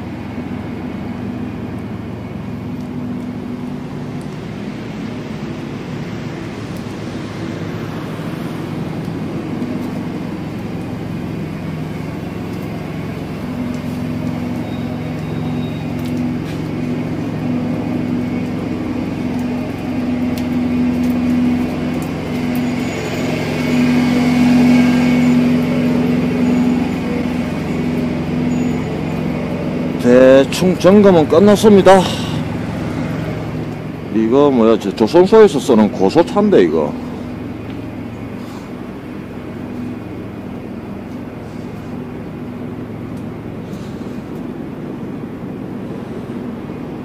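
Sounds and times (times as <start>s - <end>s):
diesel truck engines idling: 0.0s - 47.0s.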